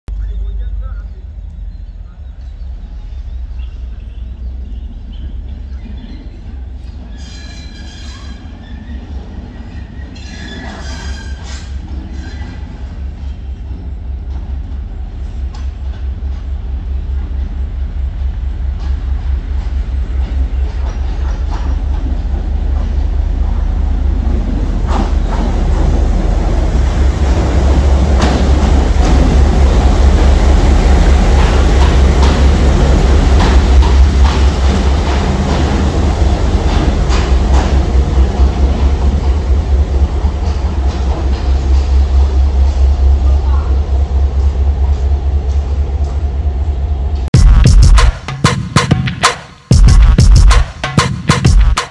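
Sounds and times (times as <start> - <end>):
diesel locomotive throbbing: 0.1 - 48.8.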